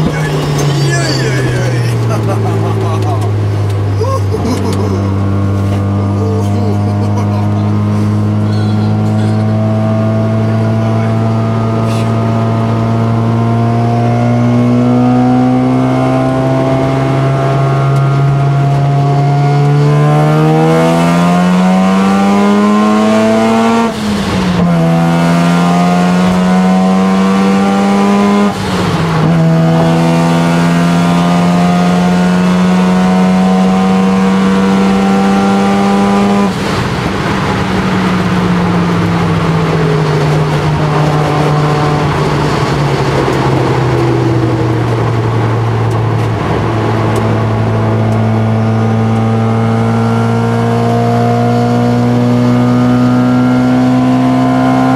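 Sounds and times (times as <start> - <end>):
car engine accelerating and shifting: 0.0 - 54.9.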